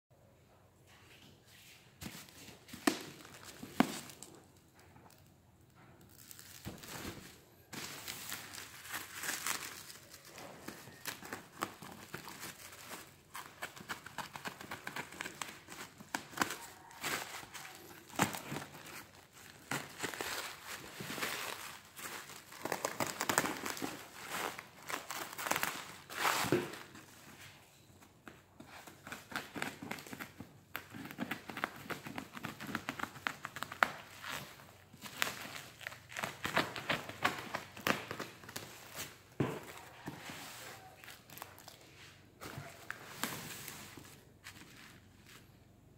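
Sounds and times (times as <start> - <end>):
bubble wrap rustling: 1.5 - 27.6, 28.3 - 45.9.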